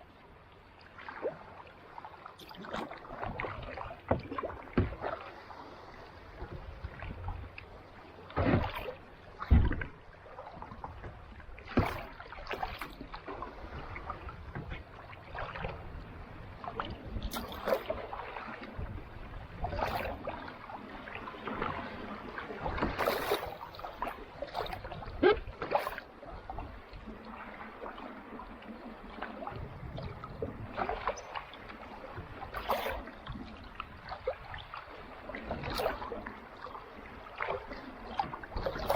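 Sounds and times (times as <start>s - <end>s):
kayak paddle splashing: 0.9s - 38.9s.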